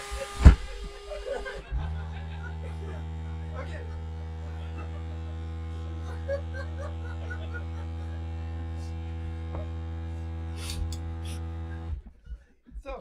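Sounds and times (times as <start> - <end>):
low buzzy electrical hum: 0.1 - 12.0.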